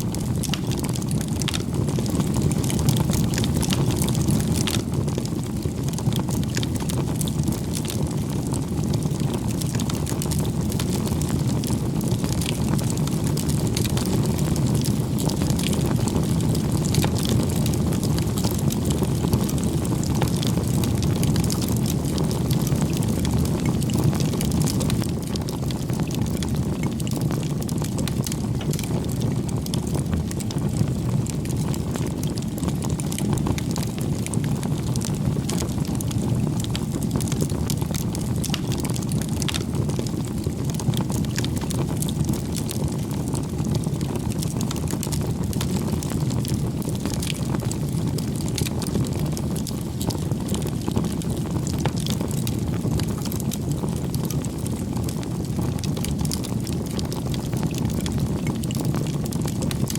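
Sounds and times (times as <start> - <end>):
low rush of flame: 0.0 - 58.8
burning wood crackling and popping: 0.0 - 59.9.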